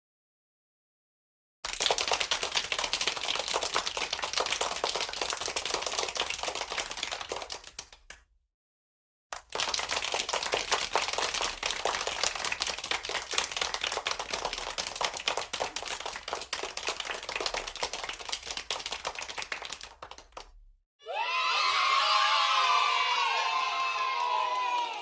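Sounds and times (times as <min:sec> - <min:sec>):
children's audience applauding: 0:01.7 - 0:08.1, 0:09.4 - 0:20.5, 0:21.1 - 0:25.0.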